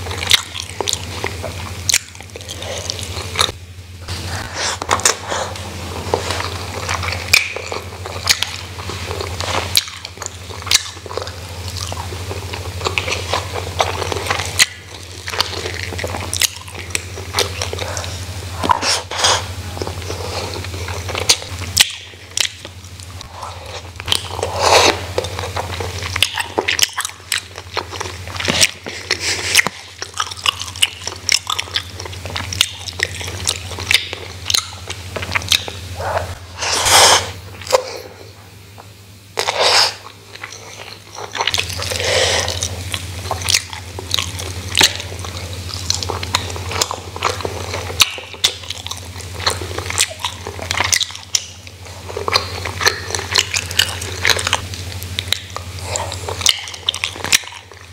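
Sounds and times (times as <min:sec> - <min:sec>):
person chewing food: 0:00.0 - 0:57.9
crunches of food: 0:04.2 - 0:57.9.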